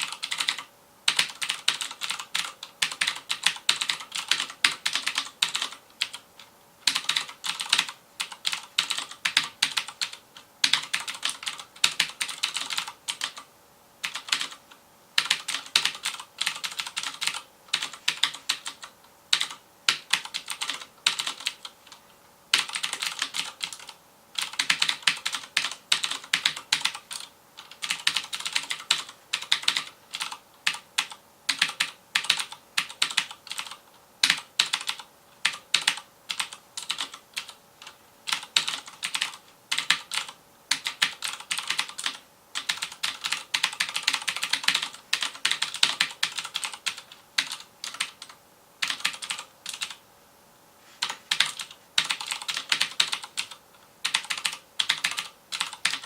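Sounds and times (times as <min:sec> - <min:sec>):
clicky mechanical keyboard typing: 0:00.0 - 0:14.6, 0:15.2 - 0:50.0, 0:51.0 - 0:56.0.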